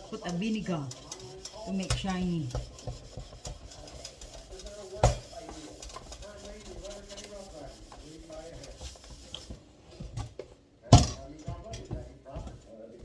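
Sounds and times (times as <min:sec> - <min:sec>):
scrubbing a kitchen sink: 0:00.0 - 0:10.6.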